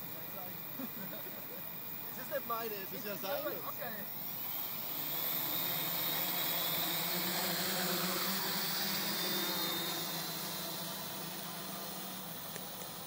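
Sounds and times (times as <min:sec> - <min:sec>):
drone motors and propellers whirring: 0:00.0 - 0:13.0.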